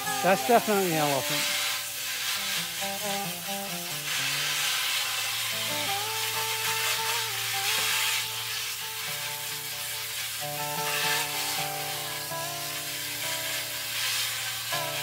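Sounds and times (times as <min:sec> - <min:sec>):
hose spray hissing: 0:00.0 - 0:15.0
music with long held notes: 0:00.0 - 0:15.0.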